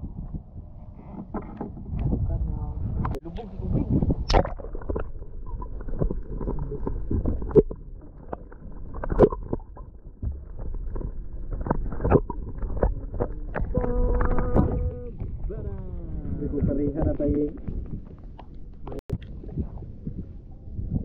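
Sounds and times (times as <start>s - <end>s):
muffled underwater wash: 0.0s - 21.0s.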